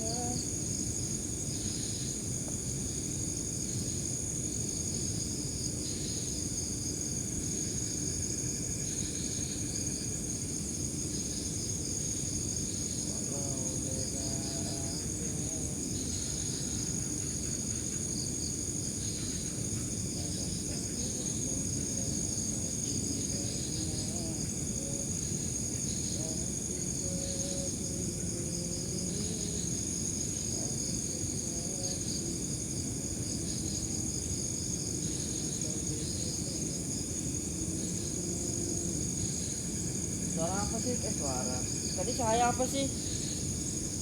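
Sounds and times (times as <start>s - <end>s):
insects trilling: 0.0s - 44.0s
pulsing cricket chirps: 0.0s - 44.0s.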